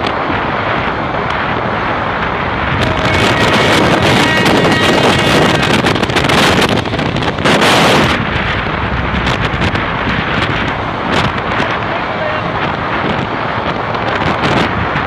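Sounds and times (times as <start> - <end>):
passenger train rumbling: 0.0 - 15.0
wind buffeting microphone: 0.0 - 15.0.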